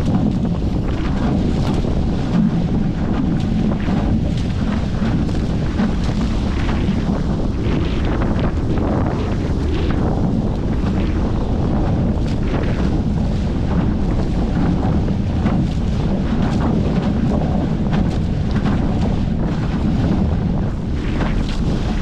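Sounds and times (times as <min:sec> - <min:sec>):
water rushing and splashing: 0:00.0 - 0:22.0
wind buffeting microphone: 0:00.0 - 0:22.0.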